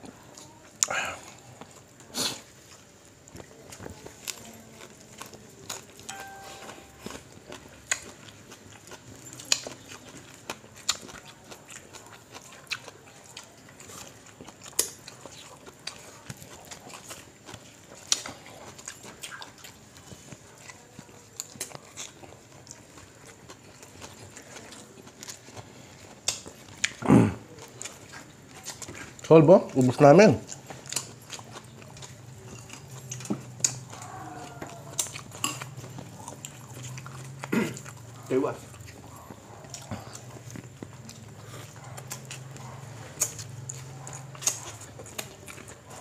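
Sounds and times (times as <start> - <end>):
chewing and mouth smacks: 0.0 - 46.0.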